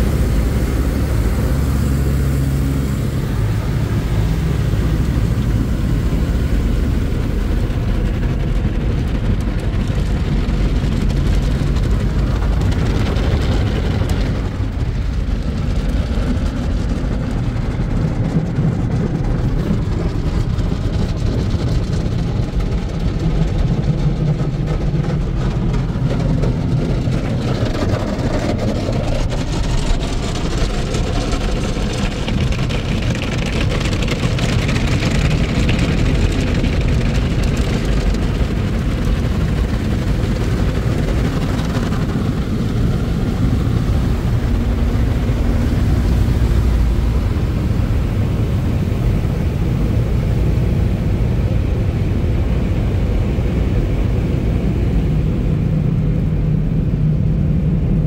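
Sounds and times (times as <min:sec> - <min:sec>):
blower dryers running: 0:00.0 - 0:58.0
water spraying over car: 0:00.0 - 0:58.0.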